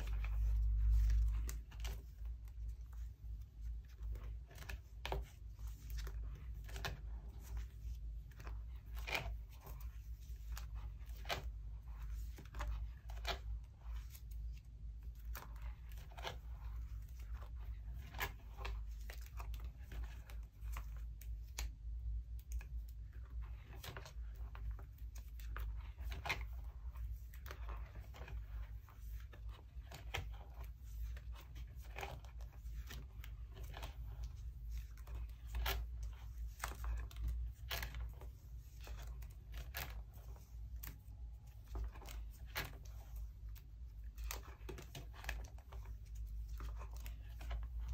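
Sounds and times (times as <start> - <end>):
plastic sleeves crinkling: 0.0 - 21.7, 22.4 - 47.9.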